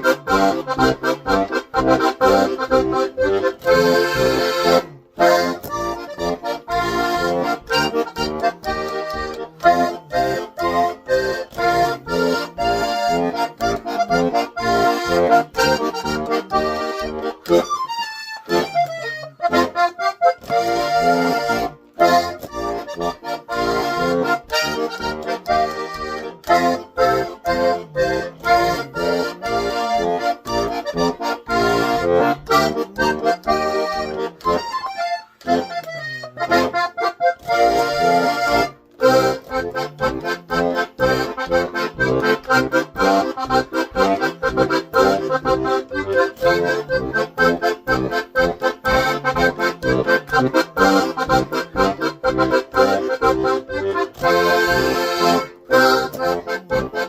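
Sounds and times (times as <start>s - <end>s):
accordion playing a polka: 0.0s - 57.0s.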